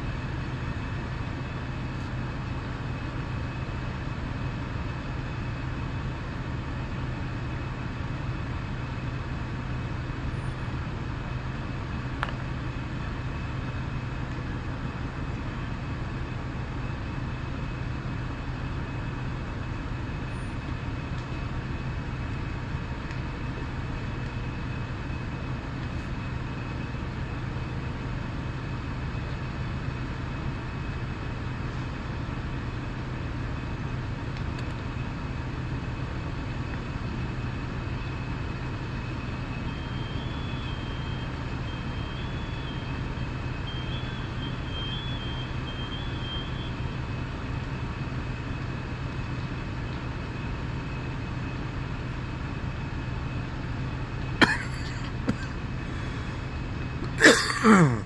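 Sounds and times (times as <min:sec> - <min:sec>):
fire engine hum: 0:00.0 - 0:58.0.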